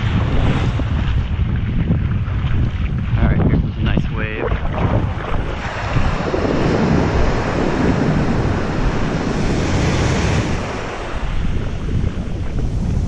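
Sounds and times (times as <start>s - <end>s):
waves breaking: 0.0s - 13.0s
wind buffeting microphone: 0.0s - 13.0s.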